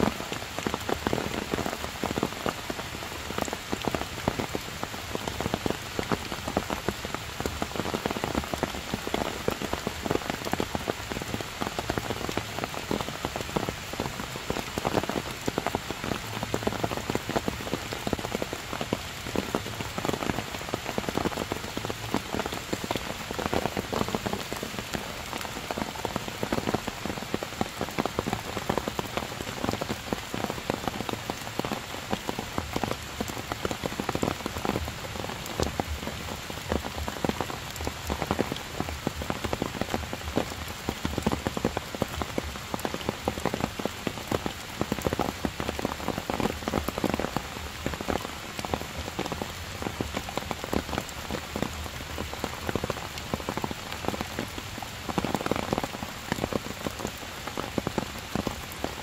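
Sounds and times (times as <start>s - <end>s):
heavy rain on leaves and stone: 0.0s - 59.0s.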